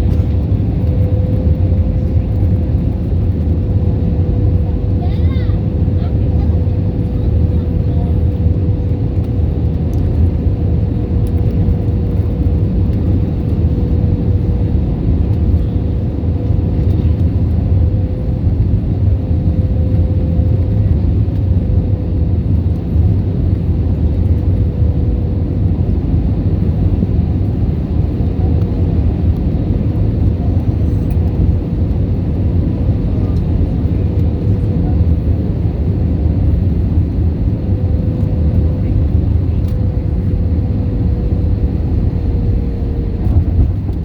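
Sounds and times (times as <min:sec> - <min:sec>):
constant hum: 0:00.0 - 0:44.0
jet engines and airflow rumble: 0:00.0 - 0:44.0.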